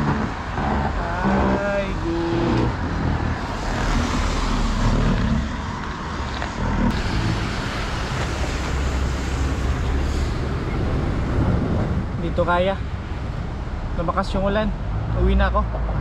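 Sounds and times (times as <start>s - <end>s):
low rumble of engines: 0.0s - 16.0s
tyres hissing on wet road: 0.2s - 14.1s.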